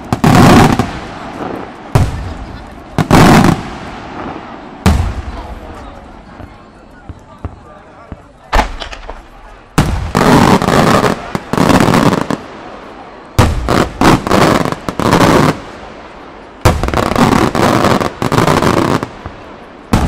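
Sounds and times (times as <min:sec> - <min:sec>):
fireworks bursting in volleys: 0:00.0 - 0:20.0.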